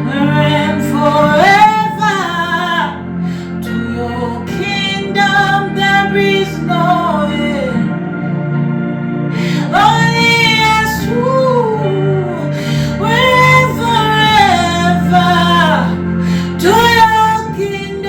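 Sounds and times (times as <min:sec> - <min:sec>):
person singing long notes: 0:00.0 - 0:08.2, 0:09.3 - 0:18.0
instrumental backing: 0:00.0 - 0:18.0.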